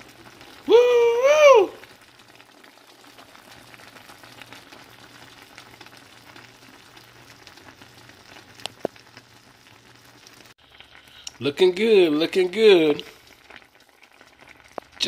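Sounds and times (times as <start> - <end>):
stew simmering and bubbling: 0.0 - 15.0.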